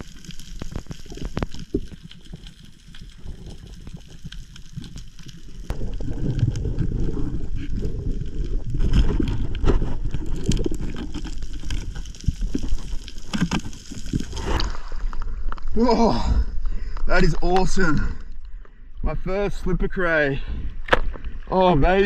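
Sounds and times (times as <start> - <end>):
underwater rushing and bubbling: 0.0 - 22.0.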